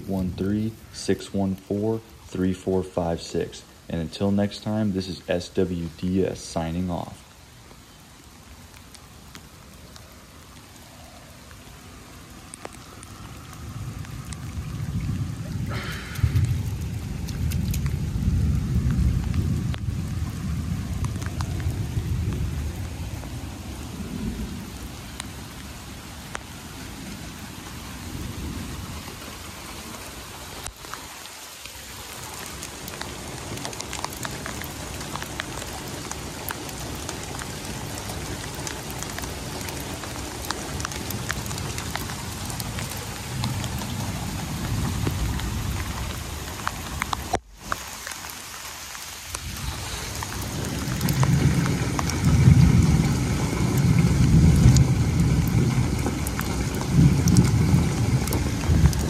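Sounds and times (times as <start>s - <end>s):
rain falling on grass and pavement: 0.0s - 59.0s
water splashing from drain pipes: 0.0s - 59.0s.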